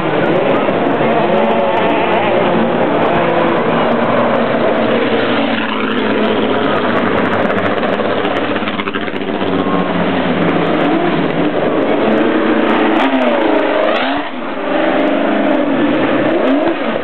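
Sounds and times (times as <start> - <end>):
racing cars driving past: 0.0 - 17.0.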